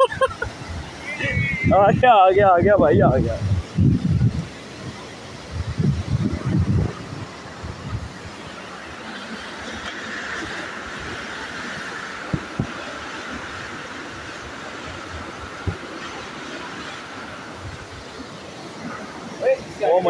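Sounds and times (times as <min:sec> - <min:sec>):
fast-flowing river rushing: 0:00.0 - 0:20.0.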